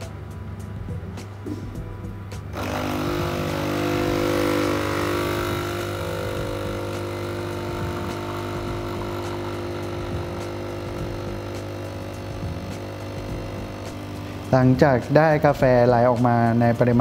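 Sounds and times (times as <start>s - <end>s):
espresso machine pump buzzing: 2.5s - 17.0s.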